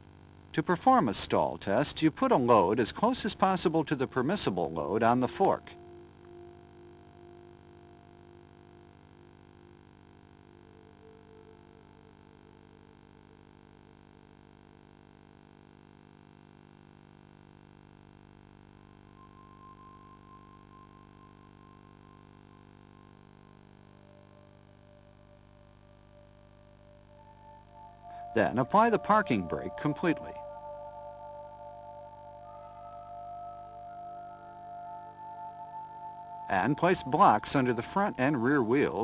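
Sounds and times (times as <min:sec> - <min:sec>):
soft synthesizer music: 0:00.8 - 0:13.4, 0:18.8 - 0:39.0
low hum: 0:01.5 - 0:14.0, 0:18.3 - 0:39.0.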